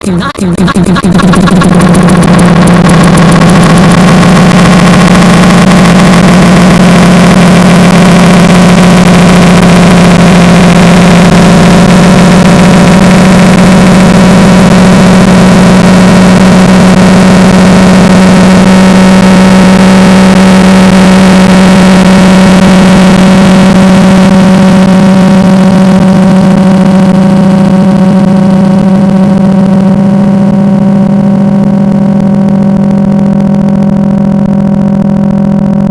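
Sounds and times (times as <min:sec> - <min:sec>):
loud steady low drone: 0:00.0 - 0:35.9.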